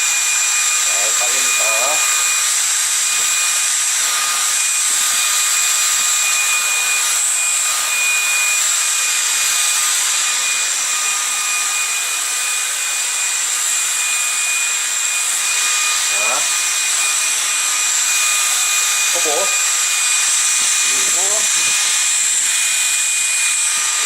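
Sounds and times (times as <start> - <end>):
stick vacuum running: 0.0 - 24.0.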